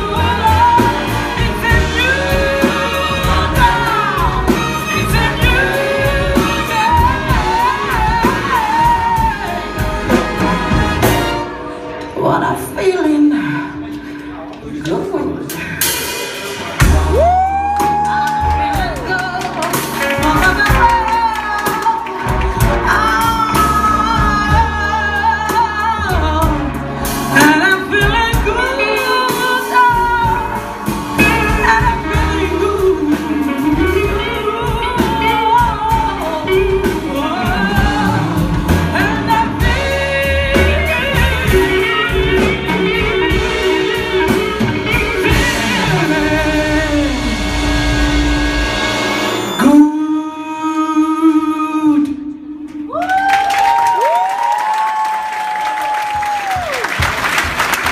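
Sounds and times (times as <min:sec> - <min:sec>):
woman singing: 0:00.0 - 0:11.4, 0:16.9 - 0:47.4, 0:49.6 - 0:54.3
instrumental accompaniment: 0:00.0 - 0:12.9, 0:15.5 - 0:50.8.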